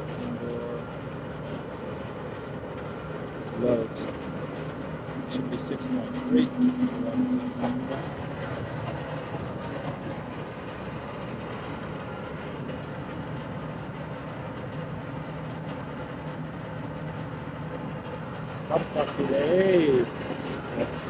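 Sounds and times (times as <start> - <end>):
air conditioning unit humming: 0.0 - 21.0.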